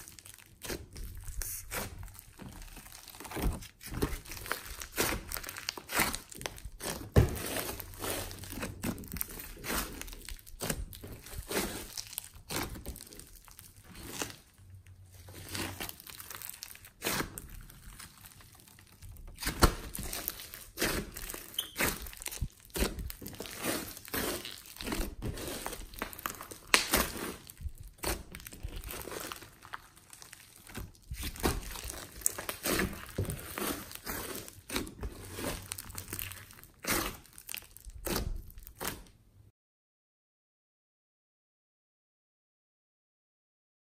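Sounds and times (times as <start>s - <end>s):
slime sticky crackles: 0.0s - 39.1s.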